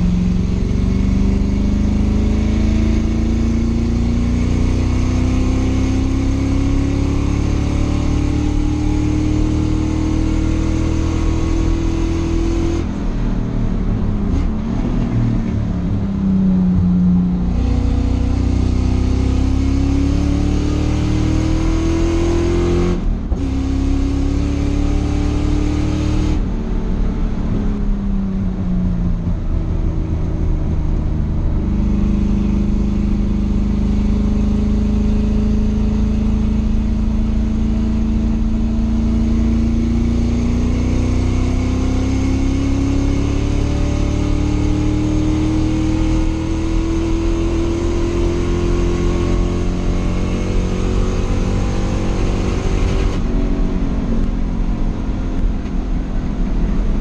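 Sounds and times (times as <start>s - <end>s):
race car engine revving: 0.0s - 27.9s, 31.2s - 57.0s.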